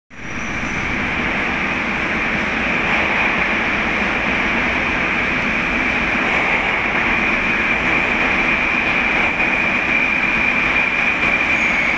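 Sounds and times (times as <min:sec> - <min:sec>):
metro train rumbling in tunnel: 0:00.1 - 0:11.9.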